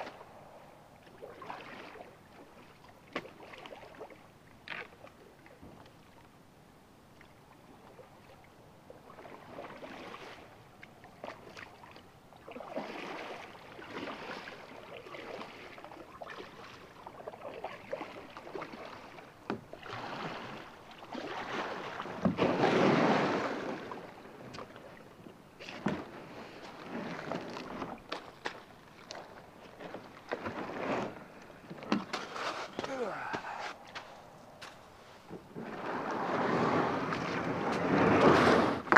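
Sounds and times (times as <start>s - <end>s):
kayak paddle splashing: 0.0s - 6.3s, 7.2s - 38.9s.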